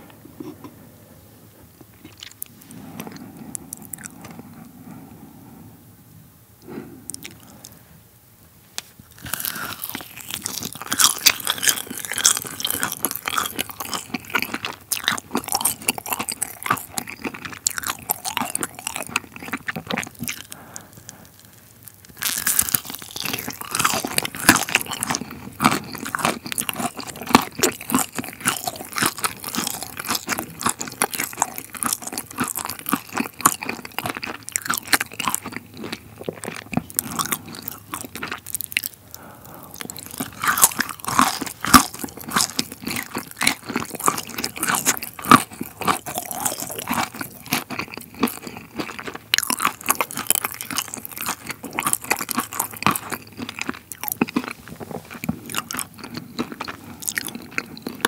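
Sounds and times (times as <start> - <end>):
crunching and chewing sweets: 1.6 - 5.6, 6.6 - 7.8, 8.8 - 58.0.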